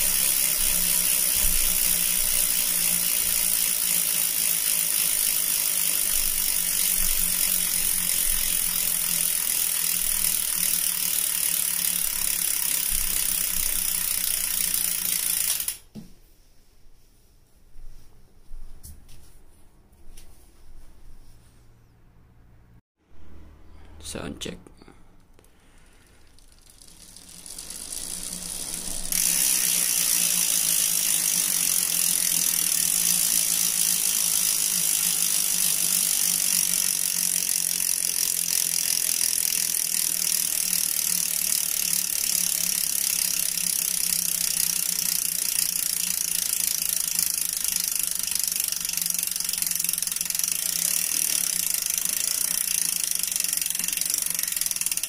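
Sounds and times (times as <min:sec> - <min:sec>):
bicycle freehub ratcheting buzz: 0:00.0 - 0:15.9, 0:25.4 - 0:55.0.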